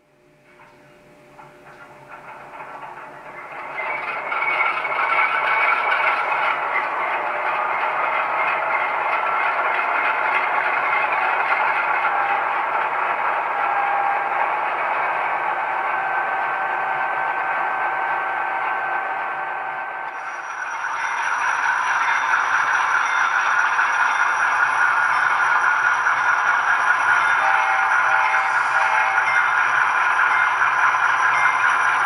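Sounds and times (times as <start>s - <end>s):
model locomotive diesel idling sound: 0.4s - 32.0s.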